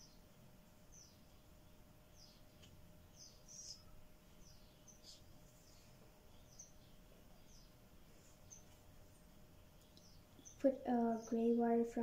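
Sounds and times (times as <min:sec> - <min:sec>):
faint high bird chirps: 0:00.0 - 0:08.9, 0:09.6 - 0:12.0
faint steady hum: 0:00.0 - 0:12.0.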